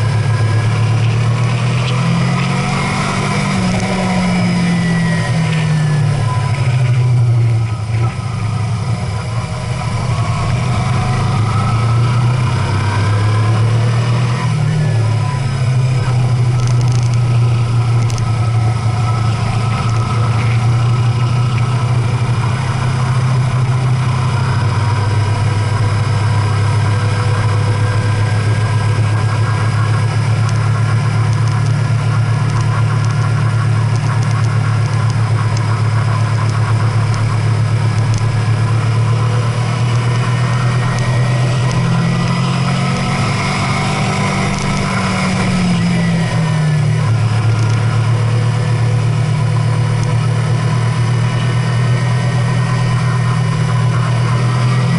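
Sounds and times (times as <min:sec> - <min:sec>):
road noise: 0:00.0 - 0:54.9
vehicle engine running: 0:00.0 - 0:54.9.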